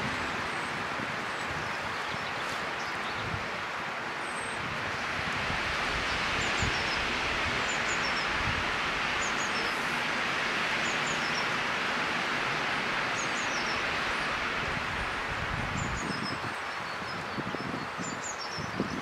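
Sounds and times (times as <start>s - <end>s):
woodland background hiss: 0.0s - 19.0s.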